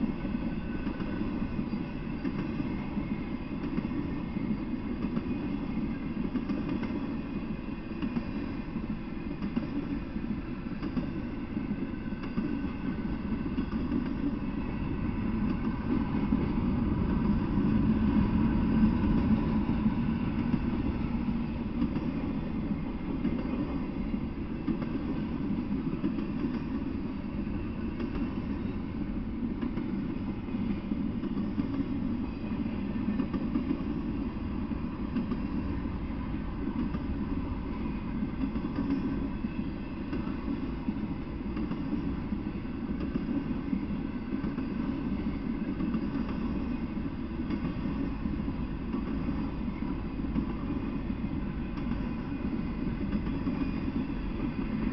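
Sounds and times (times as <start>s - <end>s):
freight train wheels rolling on rails: 0.0s - 54.9s.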